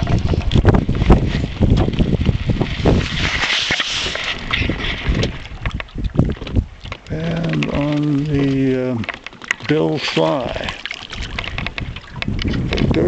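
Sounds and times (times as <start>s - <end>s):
rustling against camera: 0.0s - 13.0s.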